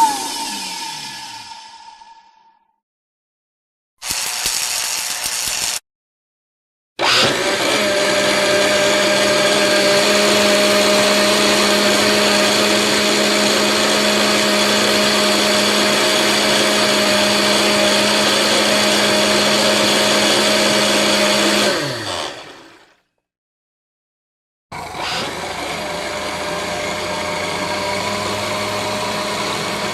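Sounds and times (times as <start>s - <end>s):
blender motor whining: 0.0s - 1.9s, 4.0s - 5.8s, 7.0s - 23.0s, 24.7s - 29.9s.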